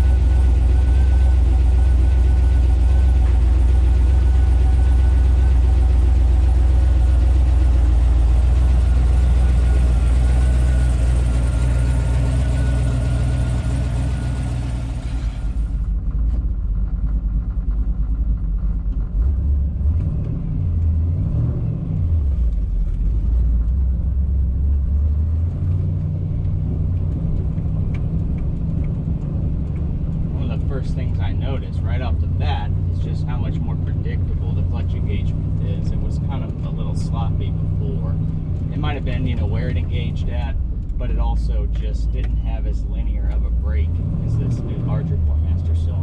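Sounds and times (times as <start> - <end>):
truck engine idling: 0.0 - 20.0, 22.2 - 46.0
muffled engine driving off: 0.0 - 46.0.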